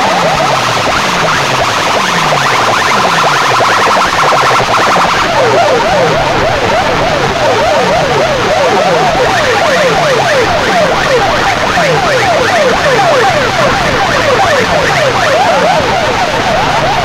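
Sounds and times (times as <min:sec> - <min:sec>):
siren-like wails from speakers: 0:00.0 - 0:17.0.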